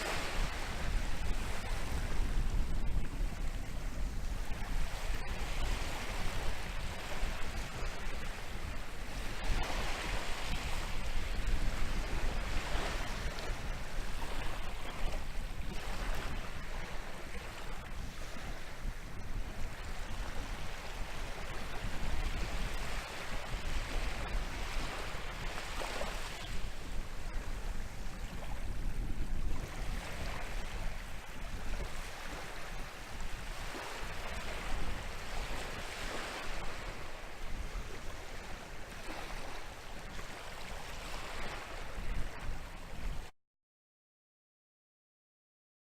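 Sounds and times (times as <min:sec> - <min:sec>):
waves breaking on shore: 0:00.0 - 0:43.3
wind rumble on microphone: 0:00.0 - 0:43.3.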